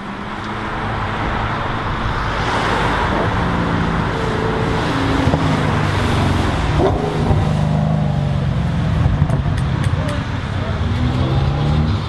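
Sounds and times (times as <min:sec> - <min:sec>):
traffic and road noise: 0:00.0 - 0:12.0.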